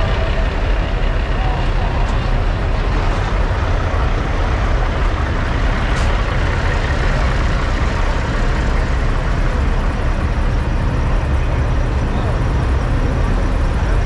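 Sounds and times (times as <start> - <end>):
diesel truck engines rumbling: 0.0 - 14.0.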